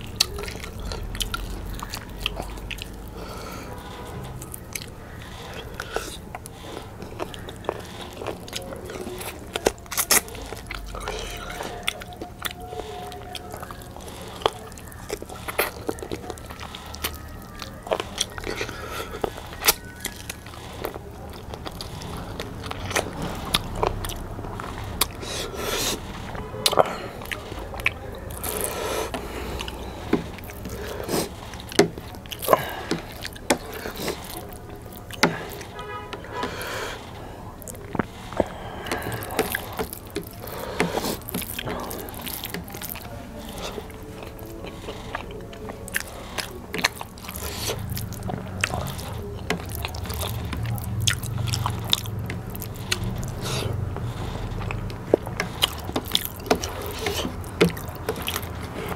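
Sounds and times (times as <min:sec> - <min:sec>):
person chewing food: 0:00.0 - 0:58.9.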